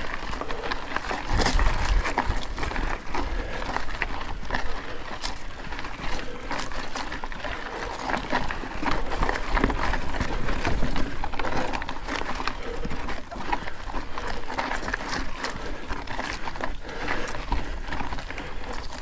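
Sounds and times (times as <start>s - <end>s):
bike rattling and knocking: 0.0s - 19.0s
tyres crunching over loose ground: 0.0s - 19.0s.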